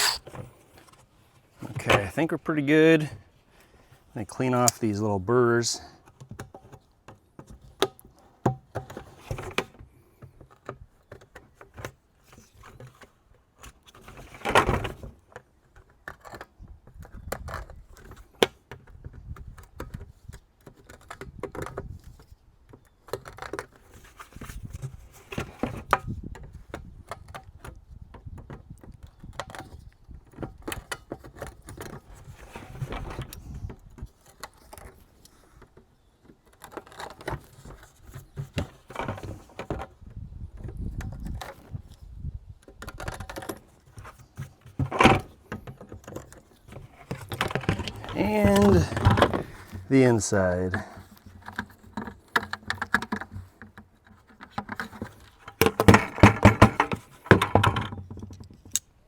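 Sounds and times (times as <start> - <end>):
clicks and scrapes on plastic bucket: 0.0 - 2.3, 6.0 - 40.0, 42.6 - 49.9, 50.5 - 58.8.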